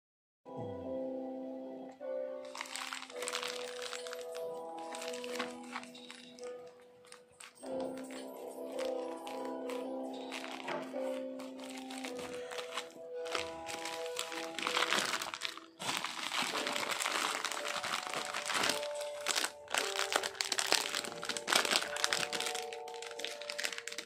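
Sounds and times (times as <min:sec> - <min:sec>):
music with long held notes: 0:00.5 - 0:24.0
plastic packaging crinkling: 0:02.4 - 0:24.0.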